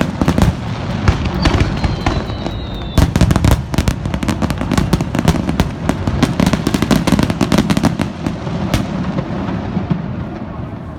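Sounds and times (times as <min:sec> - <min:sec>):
fireworks bursting and crackling: 0:00.0 - 0:10.9.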